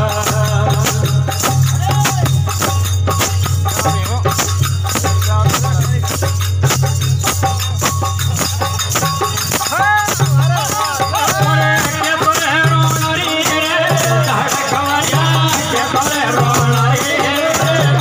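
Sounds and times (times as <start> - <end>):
metallic jingling: 0.0 - 18.0
rhythmic percussion strokes: 0.0 - 18.0.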